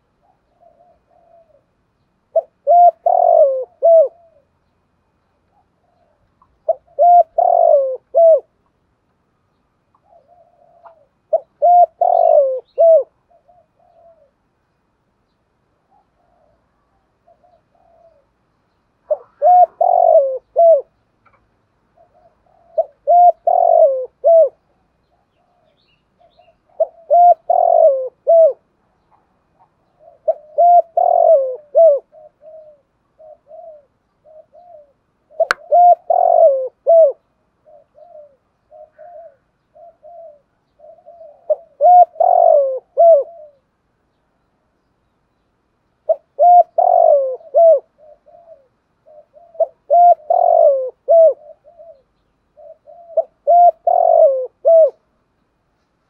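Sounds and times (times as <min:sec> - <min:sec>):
dove cooing: 0:00.0 - 0:04.6, 0:05.4 - 0:08.7, 0:09.9 - 0:14.5, 0:15.8 - 0:18.4, 0:19.0 - 0:21.0, 0:21.9 - 0:43.7, 0:46.0 - 0:55.2.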